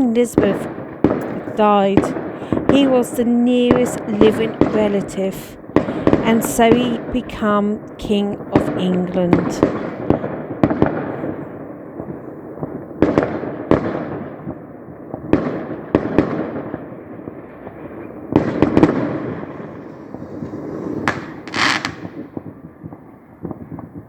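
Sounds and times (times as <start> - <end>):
fireworks banging: 0.0 - 24.0
fireworks crackling burst: 0.0 - 24.0.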